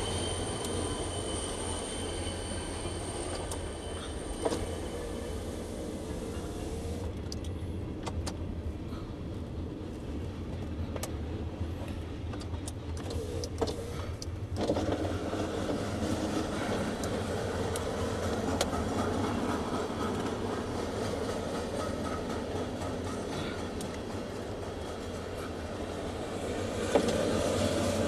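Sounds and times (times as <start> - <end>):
freight train rumble: 0.0 - 28.0.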